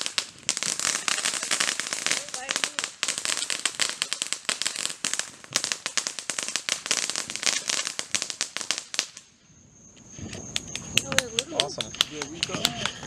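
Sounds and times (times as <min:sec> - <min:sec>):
firework crackling pops: 0:00.0 - 0:09.4, 0:10.0 - 0:13.0.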